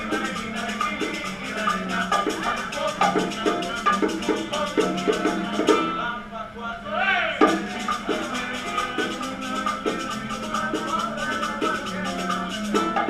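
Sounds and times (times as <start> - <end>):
shaker beat: 0.0 - 5.9, 7.4 - 13.0
live band with voices: 0.0 - 13.0.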